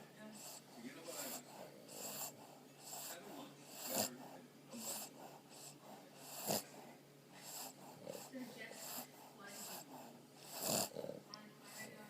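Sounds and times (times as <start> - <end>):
dogs snoring: 0.4 - 12.0.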